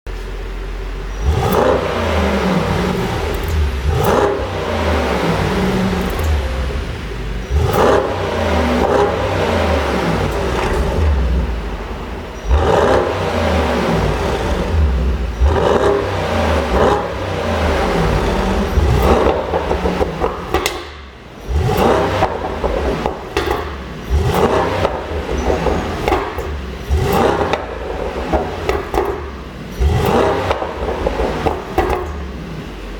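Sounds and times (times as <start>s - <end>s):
car engine revving: 0.4s - 32.9s
exhaust pops and crackles: 1.4s - 32.9s.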